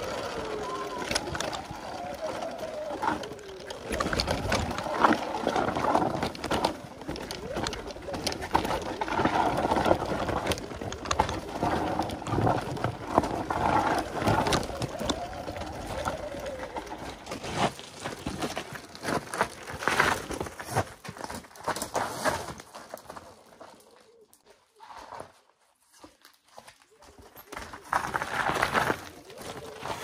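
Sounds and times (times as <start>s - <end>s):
tyre and ride noise: 0.0s - 24.2s, 27.0s - 30.0s
knocks and clatter over stones: 0.0s - 24.4s, 27.0s - 30.0s.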